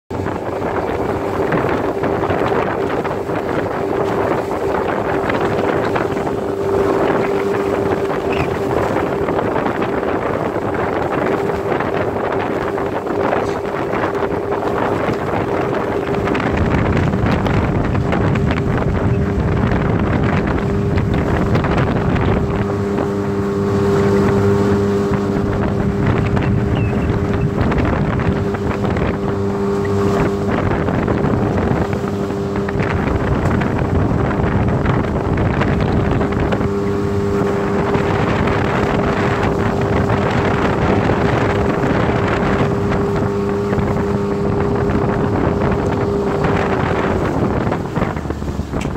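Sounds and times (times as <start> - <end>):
outboard motor running: 0.1 - 48.9
rush of water from wake: 0.1 - 48.9
wind buffeting microphone: 0.1 - 48.9.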